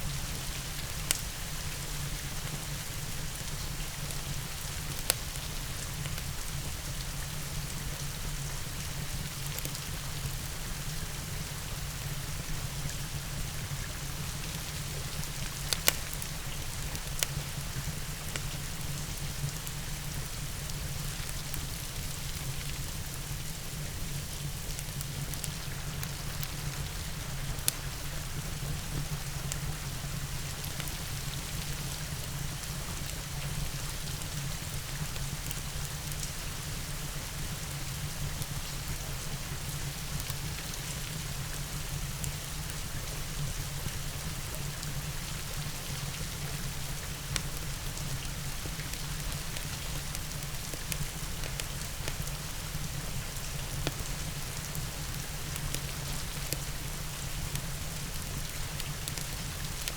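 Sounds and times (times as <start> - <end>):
crackling wood fire: 0.0 - 59.9
steady rain hiss: 0.0 - 59.9.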